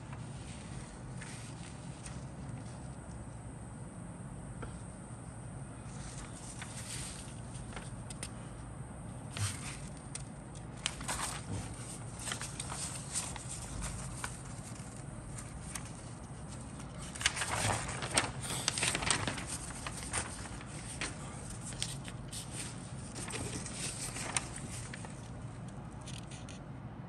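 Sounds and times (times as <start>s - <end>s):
paper rustling and crinkling: 0.0s - 3.4s, 5.9s - 8.5s, 9.2s - 26.6s.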